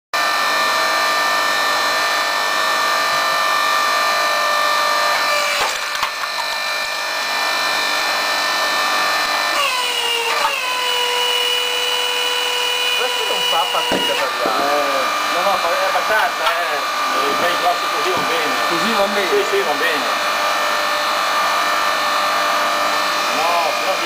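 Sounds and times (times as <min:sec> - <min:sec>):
log splitter whining: 0:00.2 - 0:24.0.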